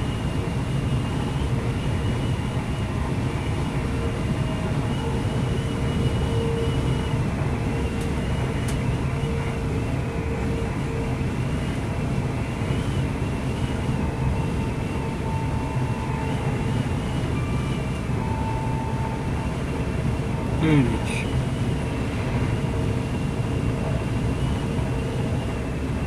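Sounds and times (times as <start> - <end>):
diesel train rumble: 0.0 - 26.0.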